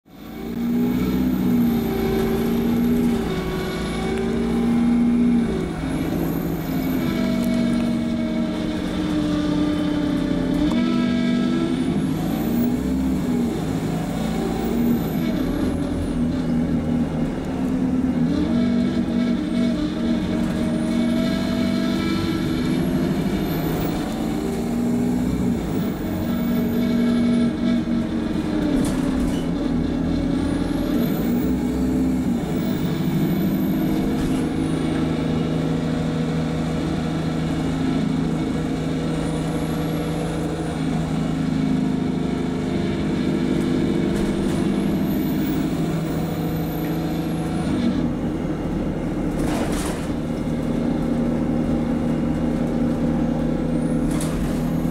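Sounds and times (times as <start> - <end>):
bus diesel engine accelerating: 0.0 - 54.9.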